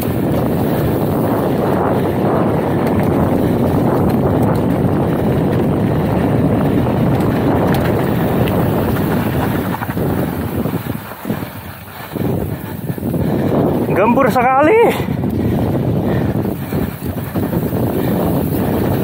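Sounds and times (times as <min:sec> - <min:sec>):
bike tyres rolling on sandy dirt: 0:00.0 - 0:19.0
wind on microphone: 0:00.0 - 0:19.0.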